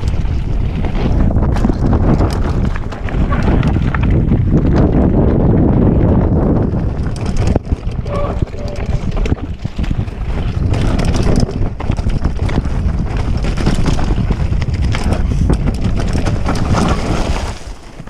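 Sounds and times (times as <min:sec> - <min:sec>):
mountain bike rattling on trail: 0:00.0 - 0:18.0
wind buffeting microphone: 0:00.0 - 0:18.0.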